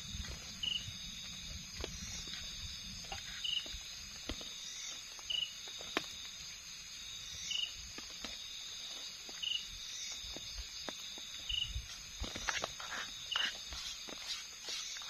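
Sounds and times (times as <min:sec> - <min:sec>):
crickets buzzing: 0:00.0 - 0:15.0
short insect chirp: 0:00.0 - 0:15.0.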